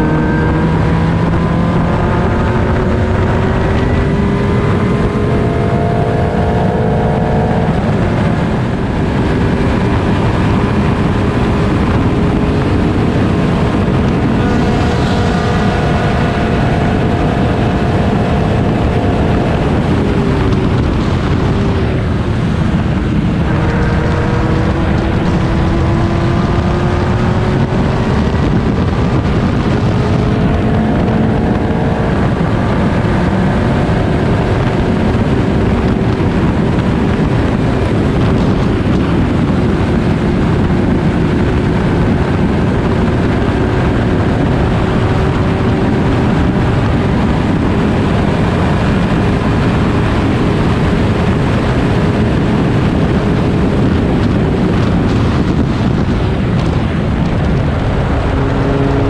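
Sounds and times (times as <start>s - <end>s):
race car engine running: 0.0s - 59.0s
wind rumble on microphone: 0.0s - 59.0s.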